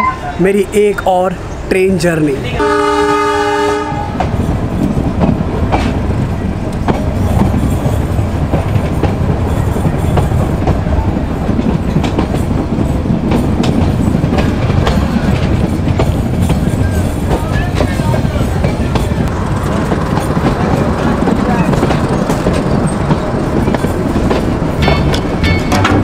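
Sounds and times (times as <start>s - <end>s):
train coaches rumbling on track: 0.0s - 26.0s
wheels clacking over rail joints: 4.1s - 26.0s.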